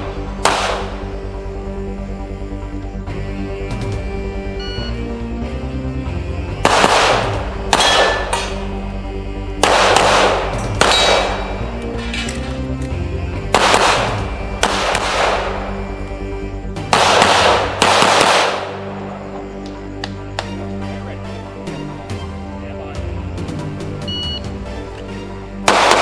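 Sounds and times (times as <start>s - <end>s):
music with held low tones: 0.0s - 26.0s.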